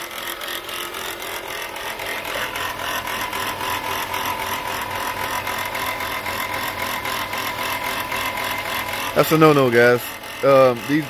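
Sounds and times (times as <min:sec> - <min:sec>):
alternator rattling: 0:00.0 - 0:11.0
car engine whining: 0:00.0 - 0:11.0.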